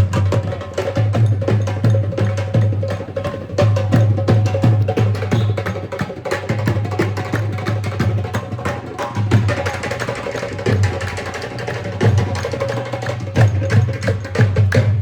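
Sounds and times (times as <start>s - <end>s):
fast drumming music: 0.0s - 15.0s.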